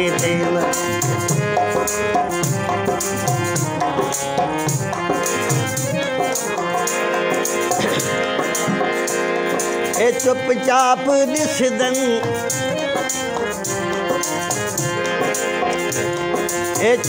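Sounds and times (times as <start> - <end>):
hand percussion beat: 0.0 - 17.0
harmonium chords and melody: 0.0 - 17.0.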